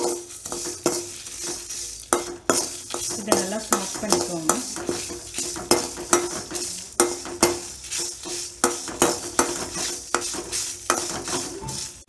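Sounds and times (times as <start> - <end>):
metal spoon scraping metal pan: 0.0 - 12.0.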